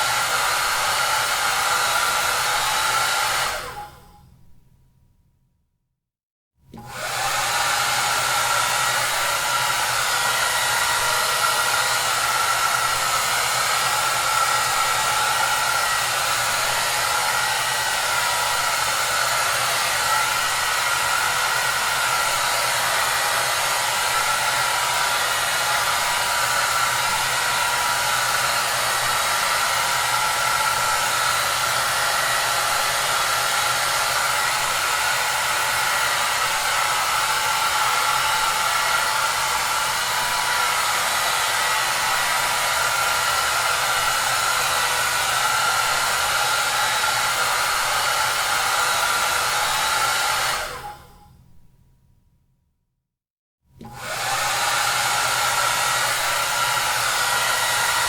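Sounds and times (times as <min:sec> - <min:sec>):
hair dryer running: 0:00.0 - 0:04.2, 0:06.7 - 0:51.2, 0:53.8 - 0:58.0.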